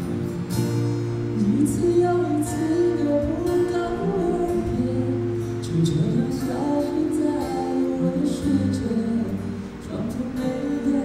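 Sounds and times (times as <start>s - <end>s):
acoustic guitar playing: 0.0s - 11.0s
person singing: 1.3s - 11.0s.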